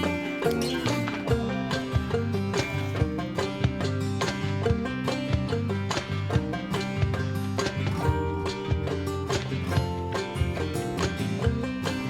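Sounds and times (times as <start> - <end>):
plucked banjo and guitar music: 0.0 - 12.0.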